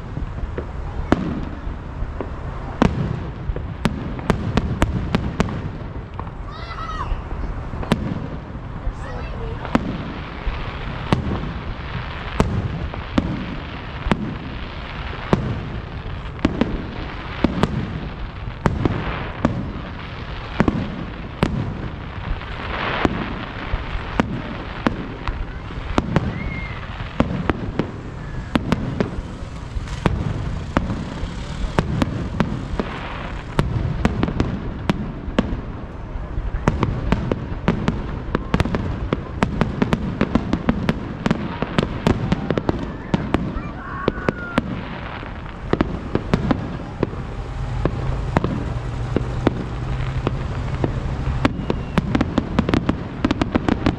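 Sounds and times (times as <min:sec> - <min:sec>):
fireworks bangs and booms: 0:00.0 - 0:53.9
fireworks crackle: 0:00.0 - 0:53.9.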